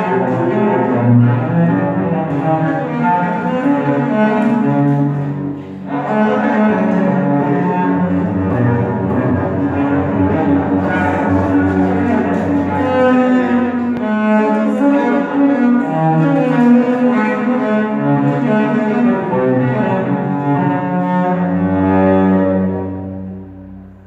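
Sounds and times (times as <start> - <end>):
cello playing slow melody: 0.0 - 24.0.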